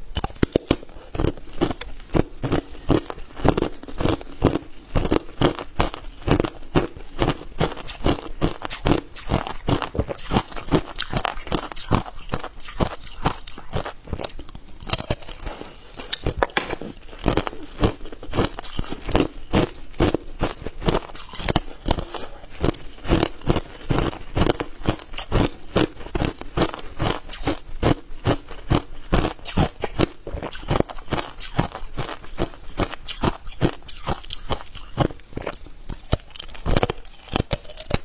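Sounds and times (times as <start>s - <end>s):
ice cubes crunching when chewed: 0.1s - 38.0s.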